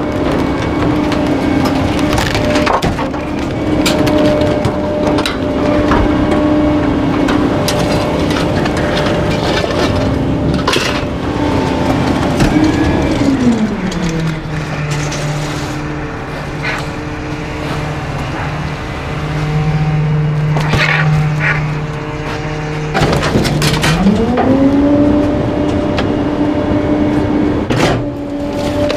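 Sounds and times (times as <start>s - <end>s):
garbage truck engine running: 0.0s - 28.9s.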